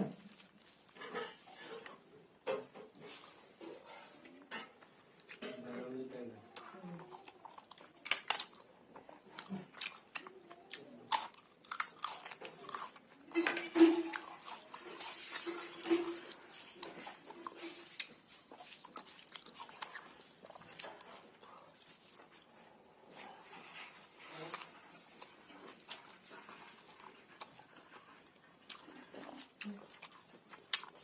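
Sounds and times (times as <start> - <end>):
person chewing crunchy food: 0.0 - 2.0, 6.5 - 22.6, 24.0 - 31.0.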